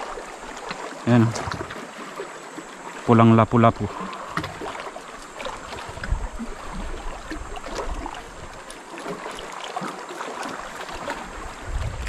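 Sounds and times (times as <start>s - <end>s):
water lapping and trickling: 0.0s - 12.0s.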